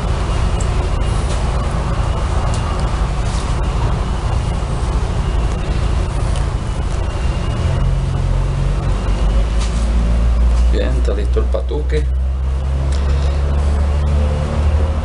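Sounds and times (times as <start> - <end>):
low engine rumble: 0.0 - 15.0
traffic noise: 0.0 - 15.0.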